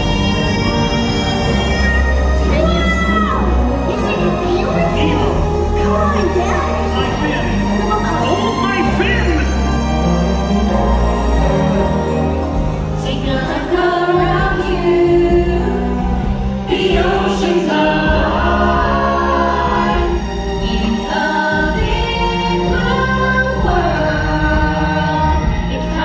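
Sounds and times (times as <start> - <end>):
choir singing with orchestral backing: 0.0 - 26.0.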